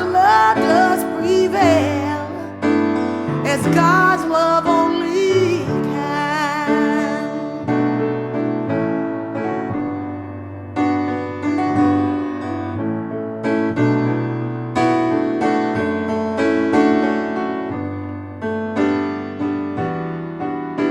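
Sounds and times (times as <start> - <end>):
instrumental piano music: 0.0 - 20.9.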